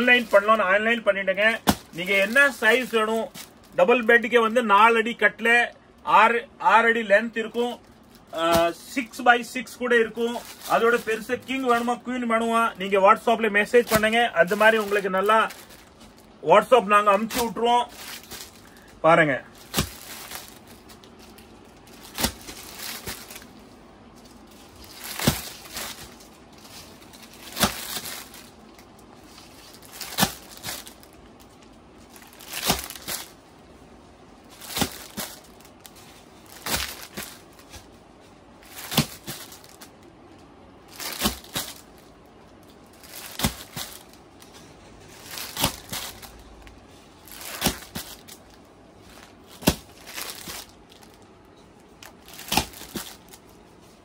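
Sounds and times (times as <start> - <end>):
plastic packaging crinkling: 0.0 - 4.6, 7.4 - 33.5, 34.4 - 38.0, 38.6 - 54.0.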